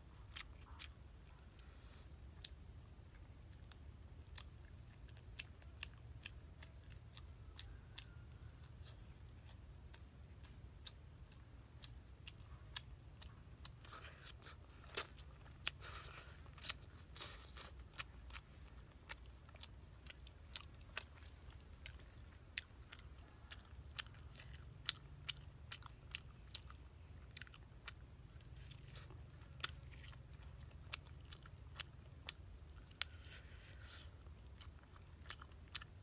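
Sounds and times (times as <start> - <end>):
chewing and biting smacks: 0.1 - 36.0
crunching and tearing food: 0.1 - 36.0.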